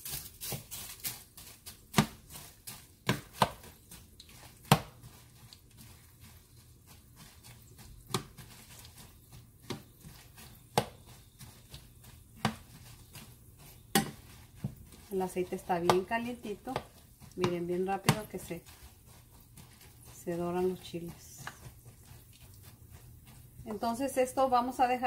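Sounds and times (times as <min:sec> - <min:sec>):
chiles sizzling in oil: 0:00.0 - 0:25.0.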